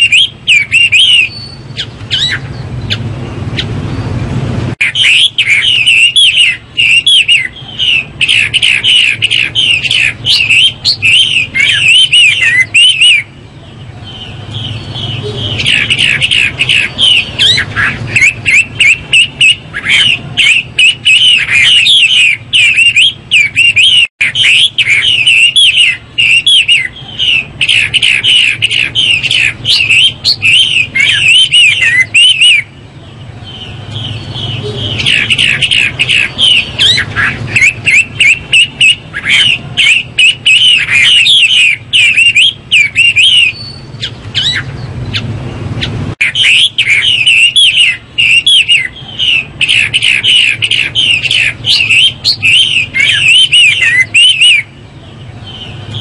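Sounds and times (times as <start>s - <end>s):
bird singing whistled notes: 0.0s - 4.2s, 4.8s - 56.0s.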